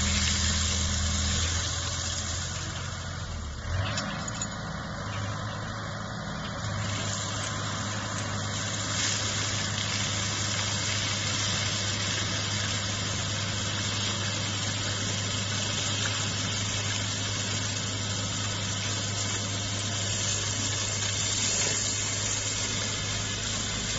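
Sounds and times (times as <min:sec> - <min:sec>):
flail mower cutting reeds: 0:00.0 - 0:04.5, 0:06.5 - 0:23.9
constant hiss: 0:00.0 - 0:23.9
diesel engine running: 0:00.0 - 0:23.9.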